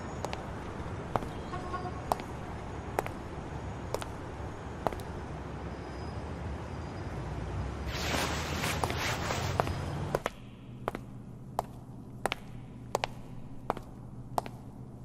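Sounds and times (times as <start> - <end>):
booted footsteps on paving: 0.0 - 5.2, 7.9 - 15.0
low outdoor rumble: 0.0 - 15.0.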